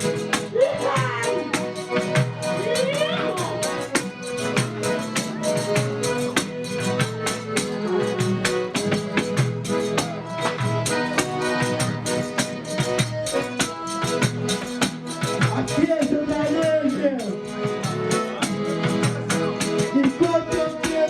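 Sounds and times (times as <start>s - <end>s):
held melody notes: 0.0s - 21.0s
tambourine-like percussion: 0.0s - 21.0s.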